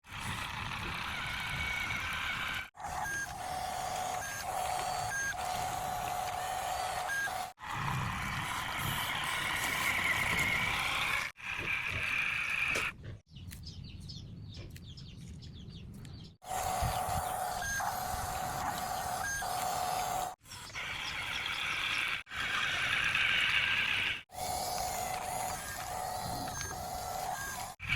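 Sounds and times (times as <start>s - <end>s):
small electric motors whining: 0.0s - 13.0s, 16.4s - 27.9s.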